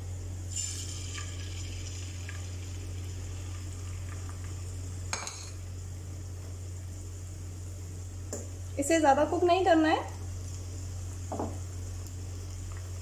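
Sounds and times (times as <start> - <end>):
egg sizzling in a pan: 0.3 - 13.0.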